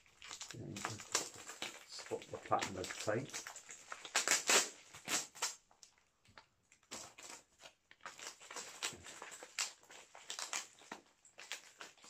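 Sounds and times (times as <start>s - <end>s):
bubble wrap crinkling and crackling: 0.0s - 12.0s
packing tape tearing: 0.0s - 12.0s.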